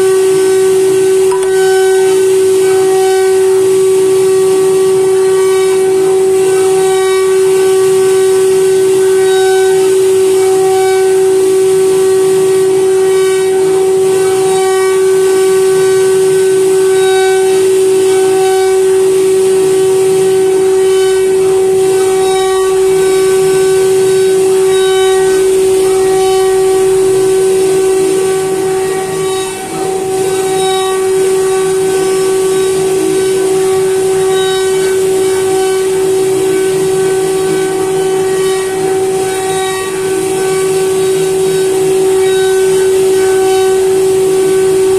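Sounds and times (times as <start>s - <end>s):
router bit cutting wood: 0.0s - 44.9s
router spindle high-pitched whine: 0.0s - 44.9s.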